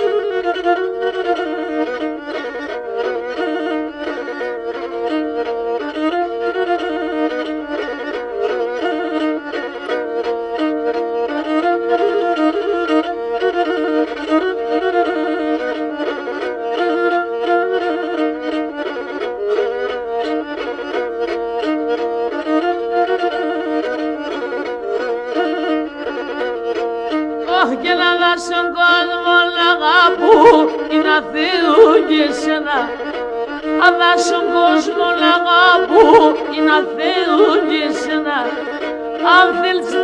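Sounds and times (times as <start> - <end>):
bowed lyra fast melody: 0.0 - 40.0.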